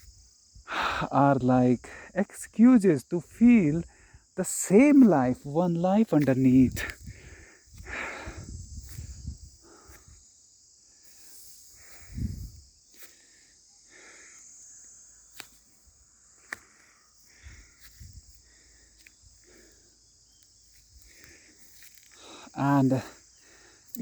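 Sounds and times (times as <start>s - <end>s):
cricket chorus: 0.0s - 24.0s.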